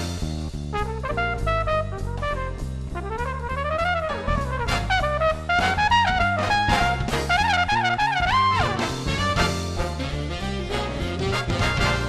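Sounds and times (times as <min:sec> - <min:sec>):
jazz tune with brass lead: 0:00.0 - 0:12.0.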